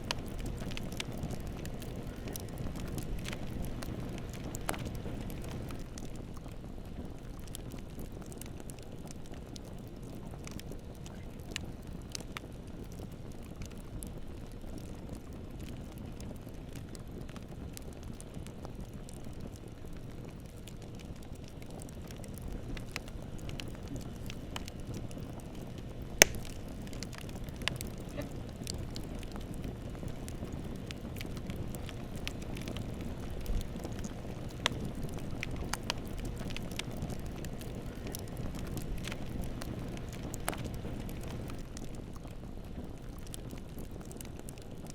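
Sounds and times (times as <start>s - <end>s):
bonfire rumble: 0.0s - 44.9s
burning wood crackling and popping: 0.0s - 44.9s.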